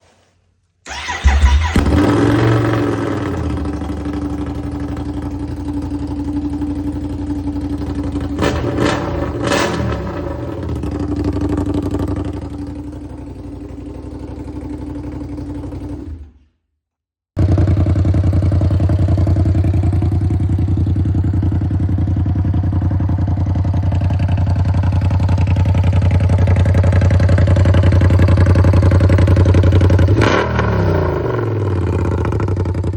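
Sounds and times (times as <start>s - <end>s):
motorcycle engine idling and revving: 0.9s - 16.5s, 17.4s - 32.9s.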